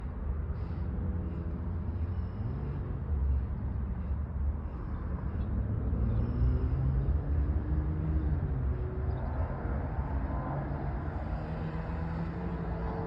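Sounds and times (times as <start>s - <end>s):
airliner engines and airflow rumble: 0.0s - 13.0s
faint hum: 0.0s - 13.0s.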